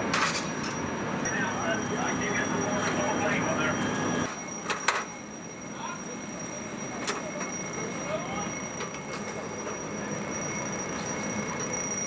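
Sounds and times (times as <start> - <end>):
fire apparatus machinery drone: 0.0 - 12.0
high-pitched whine: 0.0 - 12.0.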